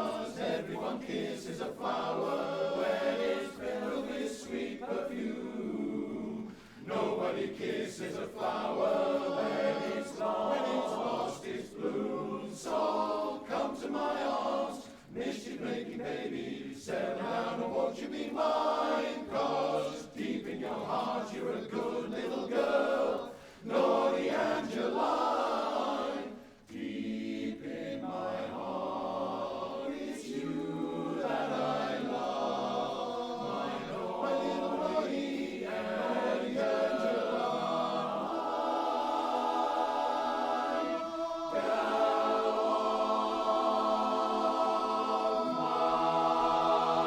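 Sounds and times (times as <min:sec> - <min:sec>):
male chorus singing in close harmony: 0:00.0 - 0:47.0.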